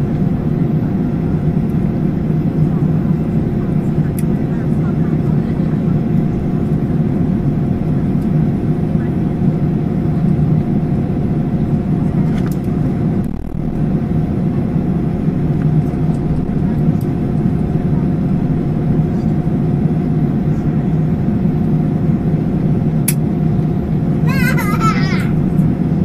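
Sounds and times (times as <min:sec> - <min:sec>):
jet engine hum from cabin: 0:00.0 - 0:26.0.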